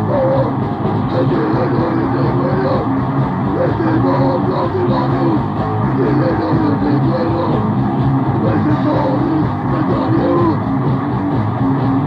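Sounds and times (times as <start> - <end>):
distorted guitar: 0.0 - 12.0
fast drums: 0.0 - 12.0.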